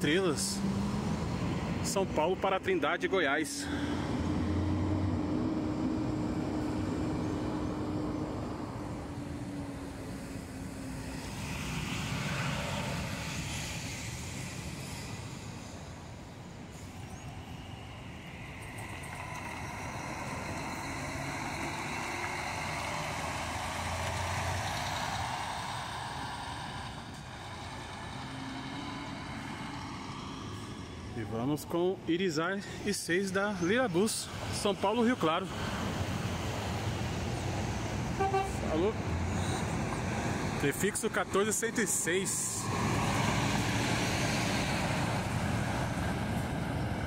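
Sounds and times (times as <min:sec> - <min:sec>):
diesel bus engine pulling away: 0:00.0 - 0:47.0
road traffic noise: 0:00.0 - 0:47.0.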